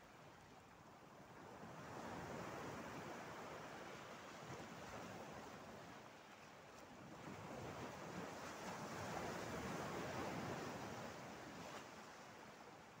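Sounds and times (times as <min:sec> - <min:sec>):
small sea waves washing ashore: 0:00.2 - 0:13.0.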